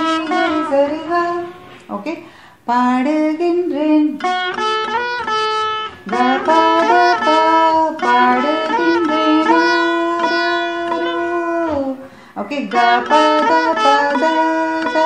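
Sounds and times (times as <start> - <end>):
veena plucked notes bending: 0.0 - 15.0.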